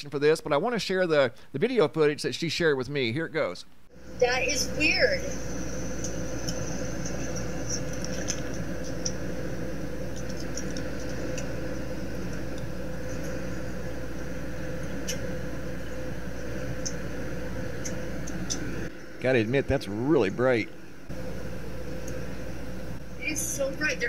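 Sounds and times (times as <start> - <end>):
airliner cabin roar: 3.9 - 24.0.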